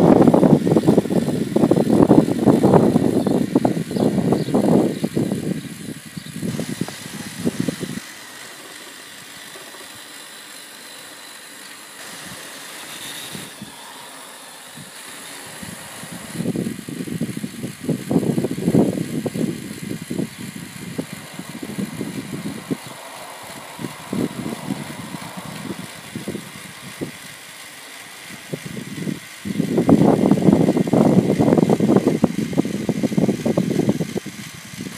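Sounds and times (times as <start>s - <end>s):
low steady hum: 0.0s - 34.8s
toy car motor whirring: 0.0s - 34.9s.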